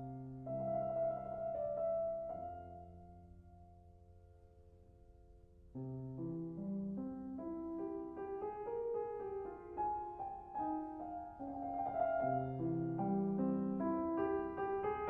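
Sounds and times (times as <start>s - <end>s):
piano background music: 0.0s - 15.0s.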